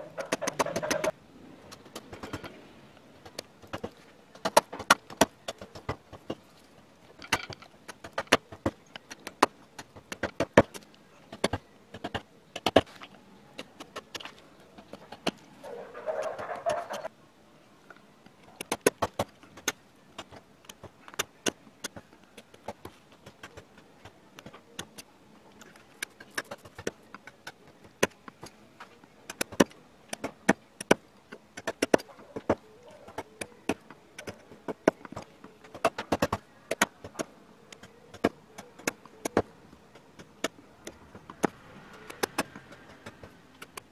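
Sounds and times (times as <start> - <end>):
gouge clicking and chipping wood: 0.0 - 2.6, 3.2 - 17.1, 18.3 - 43.9.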